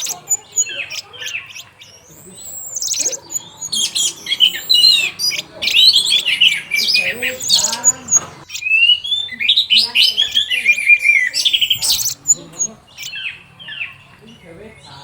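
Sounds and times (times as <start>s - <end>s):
thrush singing: 0.0s - 15.0s.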